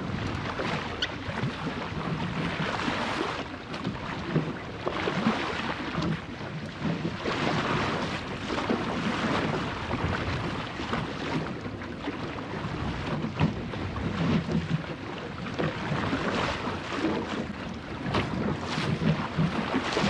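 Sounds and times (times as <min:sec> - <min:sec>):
water rushing along boat hull: 0:00.0 - 0:20.0.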